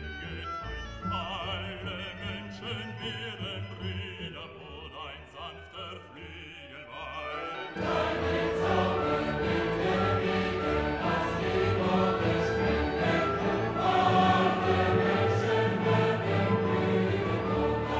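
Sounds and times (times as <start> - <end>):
background music: 0.0 - 17.9.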